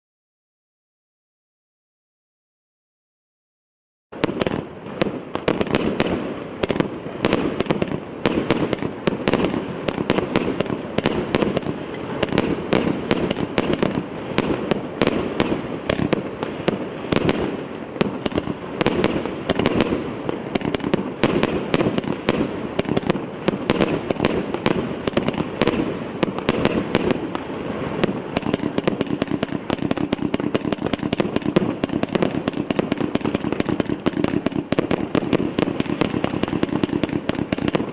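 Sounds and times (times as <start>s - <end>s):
fireworks launching and banging: 4.1s - 37.9s.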